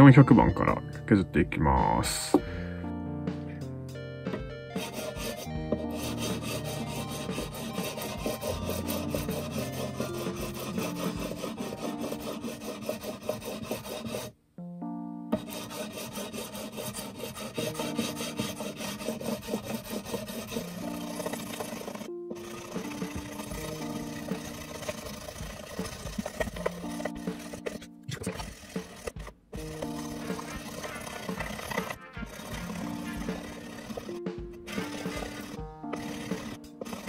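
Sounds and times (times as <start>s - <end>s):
background music: 0.0s - 37.0s
sanding block rubbing on frets: 4.7s - 14.3s, 15.4s - 37.0s.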